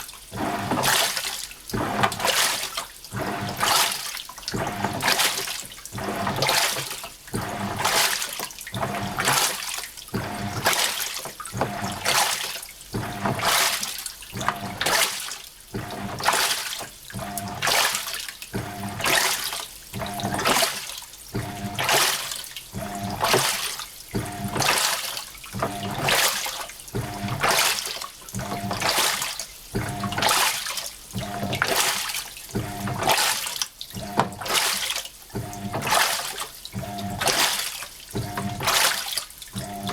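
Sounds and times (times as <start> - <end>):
washing machine water sloshing: 0.0 - 39.9.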